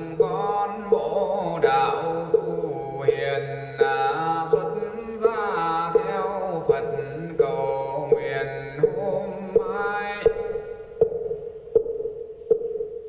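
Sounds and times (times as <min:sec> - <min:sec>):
man chanting: 0:00.0 - 0:10.8
steady knocking beat: 0:00.0 - 0:13.0.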